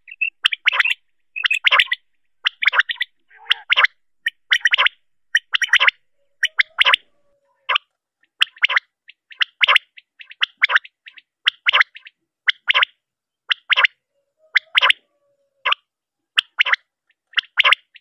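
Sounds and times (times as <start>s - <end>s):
quail calling: 0.0s - 18.0s.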